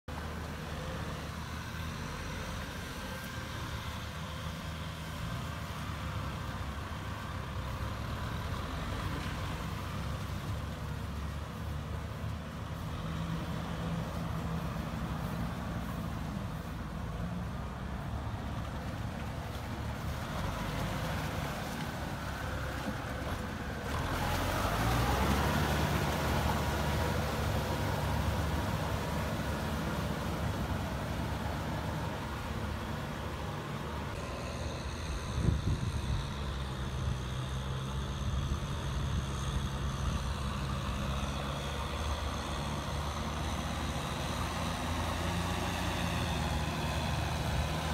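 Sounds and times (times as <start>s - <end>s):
tractor diesel engines under load: 0.0s - 47.9s.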